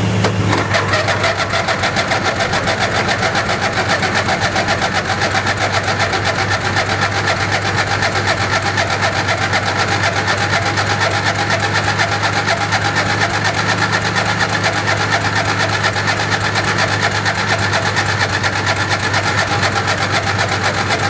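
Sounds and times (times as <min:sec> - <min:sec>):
engine cranking by starter: 0:00.0 - 0:21.0.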